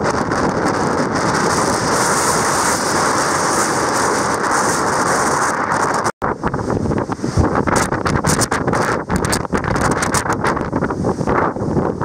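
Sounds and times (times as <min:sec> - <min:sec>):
heavy surf breaking: 0:00.0 - 0:12.0
wind buffeting microphone: 0:00.0 - 0:12.0.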